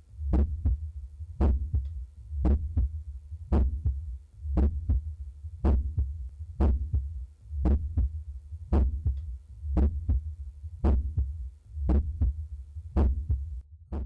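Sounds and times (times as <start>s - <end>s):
heartbeat through stethoscope: 0.2s - 14.0s.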